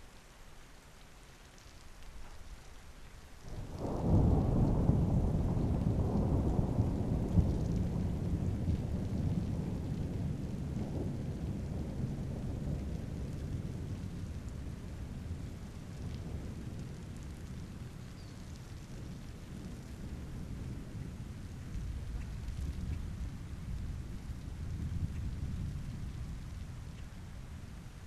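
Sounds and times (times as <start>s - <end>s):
light rain hissing: 0.0s - 28.0s
thunder rumbling: 3.5s - 28.0s.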